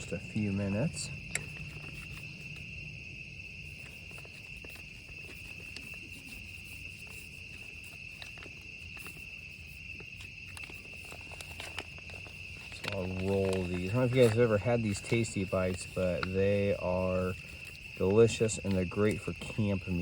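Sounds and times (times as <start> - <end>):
crickets chirring: 0.0 - 20.0
faint low hum: 0.0 - 20.0.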